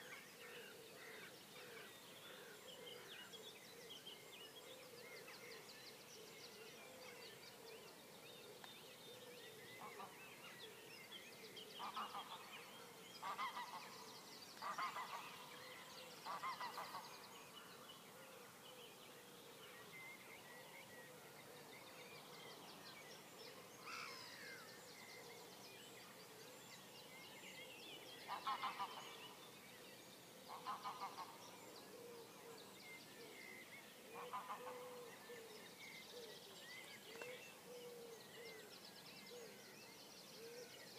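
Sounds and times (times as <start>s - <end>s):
faint songbird singing: 0.0s - 40.9s.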